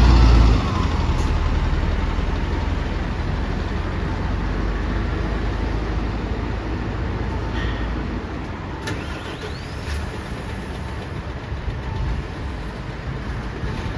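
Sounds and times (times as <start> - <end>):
bus diesel engine rumbling: 0.0 - 13.9.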